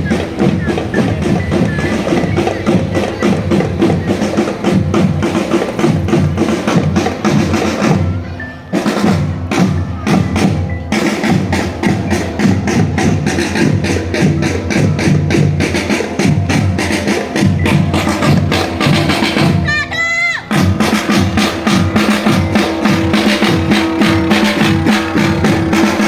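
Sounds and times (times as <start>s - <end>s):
marching drum band: 0.0s - 26.0s.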